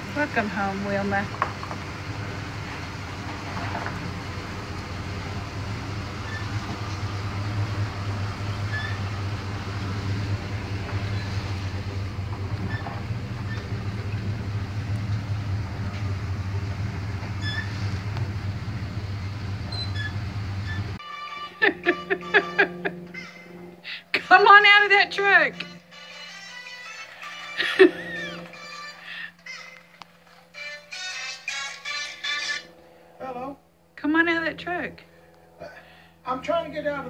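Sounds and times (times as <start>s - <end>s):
truck engine low drone: 0.0s - 37.0s.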